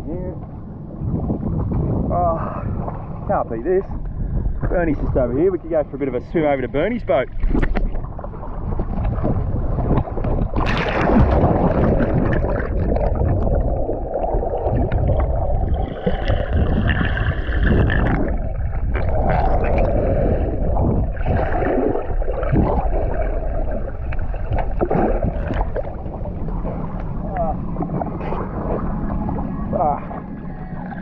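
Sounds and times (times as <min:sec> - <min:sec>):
heavy low rumble: 0:00.0 - 0:31.0
water sloshing and gurgling: 0:00.0 - 0:31.0
water splashes: 0:00.0 - 0:31.0.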